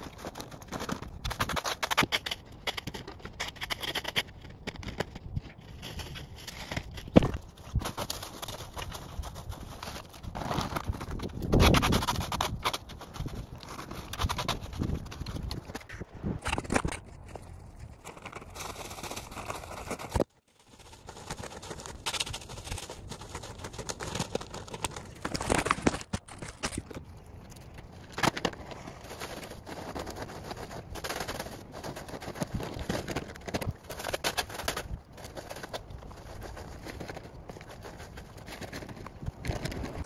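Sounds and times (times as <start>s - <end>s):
rake scraping on asphalt: 5.5s - 26.0s, 28.1s - 40.0s.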